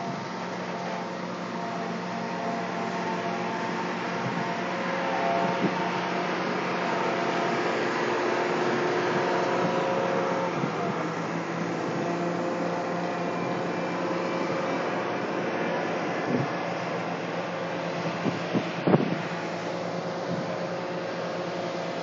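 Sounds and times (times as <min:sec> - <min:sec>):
steel wheels on rails: 0:00.0 - 0:22.0.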